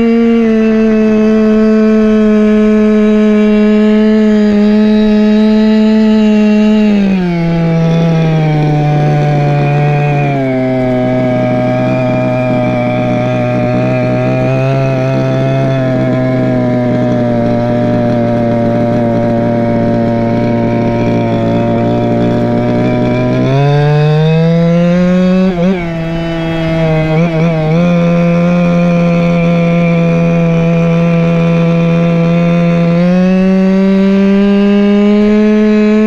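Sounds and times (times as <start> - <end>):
scooter two-stroke engine running: 0.0 - 36.0.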